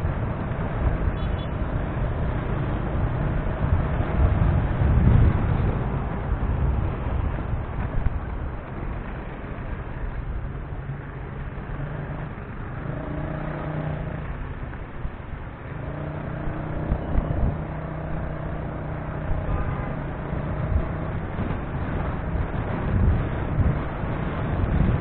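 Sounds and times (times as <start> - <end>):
road rumble: 0.0 - 25.0.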